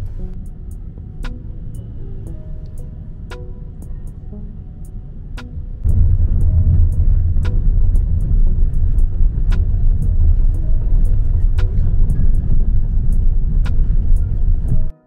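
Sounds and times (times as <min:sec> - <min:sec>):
car interior road and engine rumble: 0:00.0 - 0:14.9.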